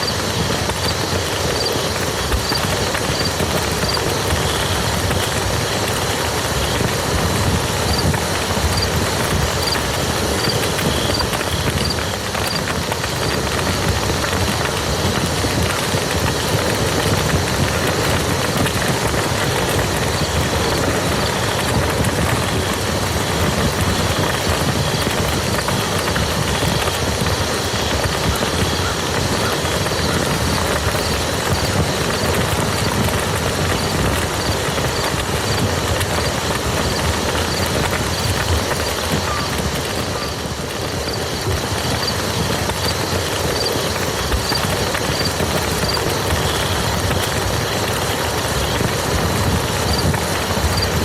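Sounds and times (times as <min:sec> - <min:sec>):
rain falling on a field: 0:00.0 - 0:51.0.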